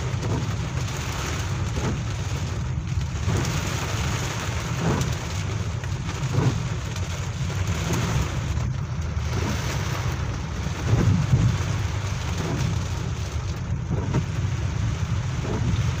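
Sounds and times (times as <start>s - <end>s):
heavy rain pouring: 0.0s - 16.0s
low rumble: 0.0s - 16.0s.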